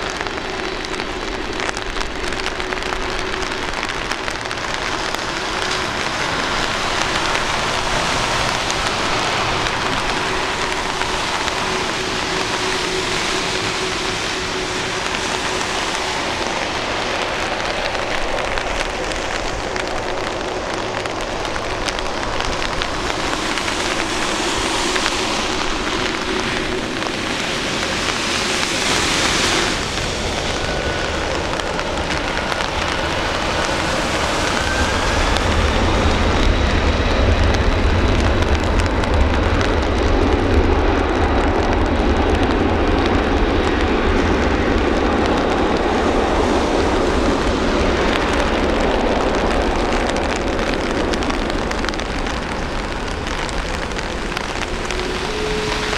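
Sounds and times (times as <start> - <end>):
faint engine whine: 0.0 - 55.9
jet engines spooling up: 0.0 - 55.9
rain hiss: 0.0 - 55.9.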